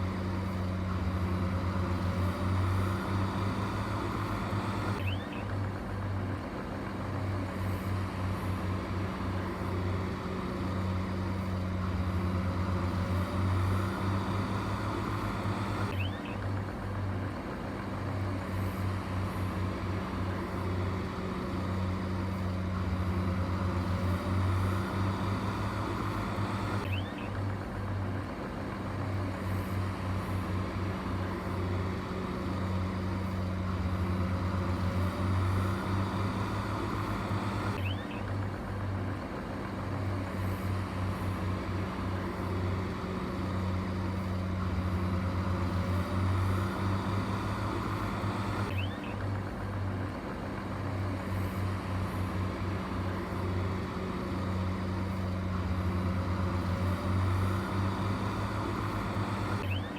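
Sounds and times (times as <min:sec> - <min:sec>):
heavy machinery engine humming: 0:00.0 - 0:59.9.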